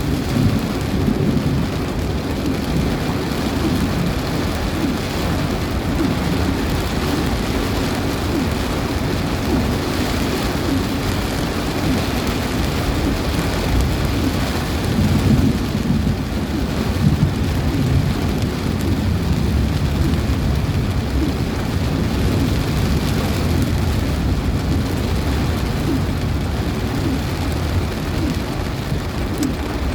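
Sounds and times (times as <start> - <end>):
heavy rain in strong wind: 0.0 - 29.9.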